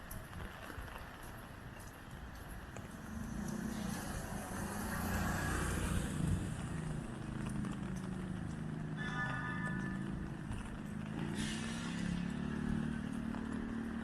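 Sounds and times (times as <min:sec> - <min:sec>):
car passing on wet street: 0:00.0 - 0:14.0.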